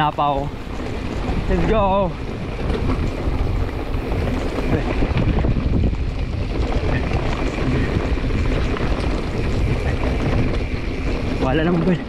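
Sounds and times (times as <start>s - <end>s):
bike rattling over bumps: 0.0s - 12.0s
bike tyres rolling on dirt: 0.0s - 12.0s
wind noise on microphone: 0.0s - 12.0s.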